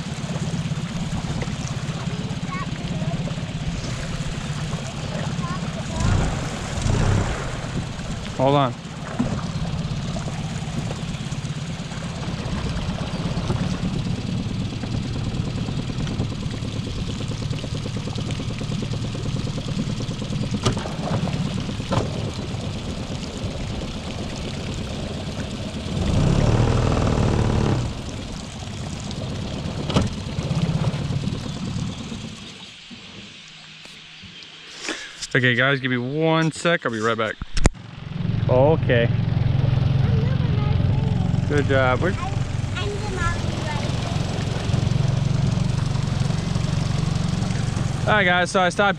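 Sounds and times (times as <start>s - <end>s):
outboard motor running: 0.0s - 48.9s.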